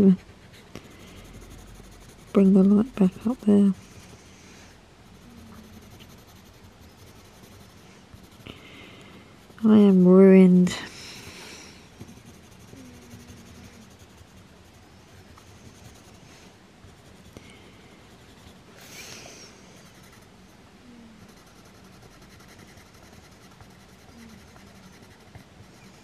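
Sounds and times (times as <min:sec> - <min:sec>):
pencil scratching on paper: 0:00.0 - 0:04.2, 0:05.1 - 0:20.3, 0:21.2 - 0:26.0.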